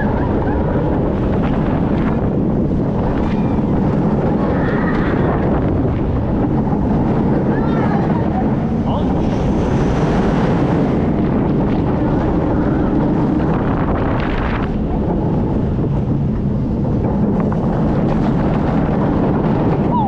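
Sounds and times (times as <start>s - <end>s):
roller coaster on track: 0.0s - 20.0s
wind buffeting microphone: 0.0s - 20.0s.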